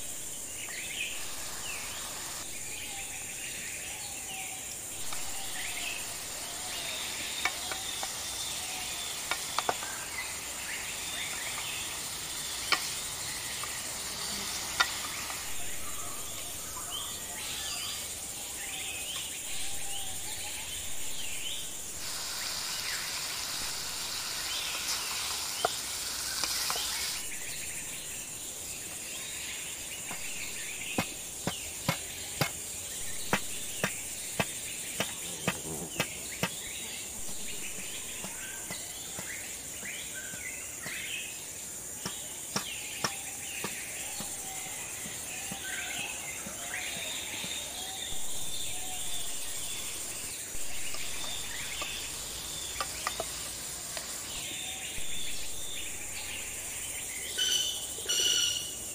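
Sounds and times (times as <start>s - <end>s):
birds chirping: 0.0s - 58.9s
high insect drone: 0.0s - 58.9s.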